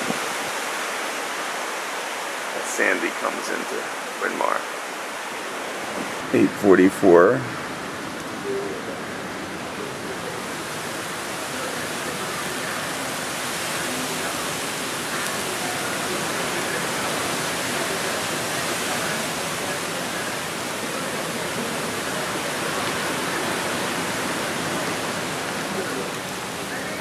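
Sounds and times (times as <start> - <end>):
rain hissing: 0.0 - 27.0
wind through tree leaves: 0.0 - 27.0.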